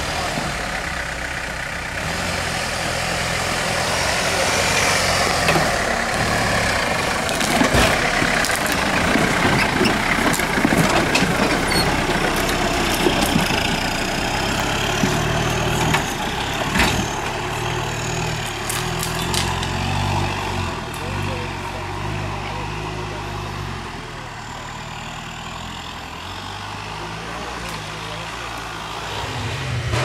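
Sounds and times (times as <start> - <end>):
truck engine at low revs: 0.0 - 30.0.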